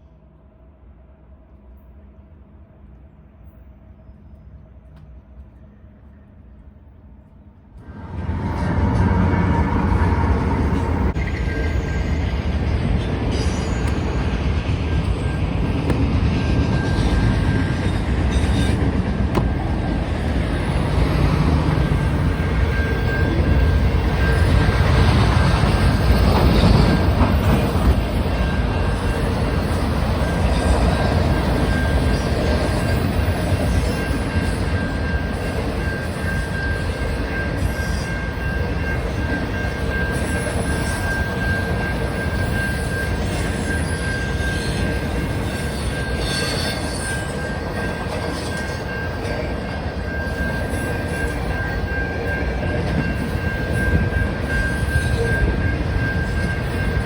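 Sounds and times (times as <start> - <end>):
train wheels rumbling on rail: 1.1 - 57.0.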